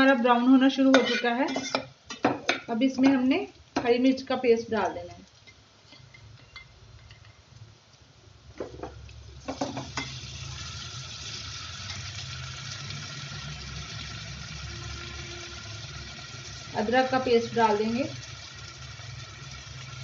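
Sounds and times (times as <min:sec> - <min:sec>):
oil sizzling in pan: 0:00.0 - 0:20.0.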